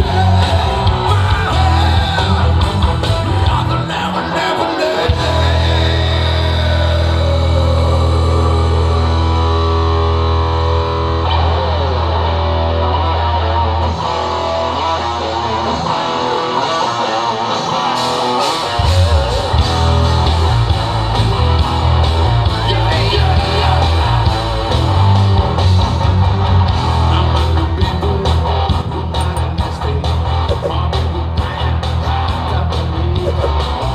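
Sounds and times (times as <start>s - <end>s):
bass guitar: 0.0s - 33.9s
drums: 0.0s - 33.9s
electric guitar: 0.0s - 33.9s.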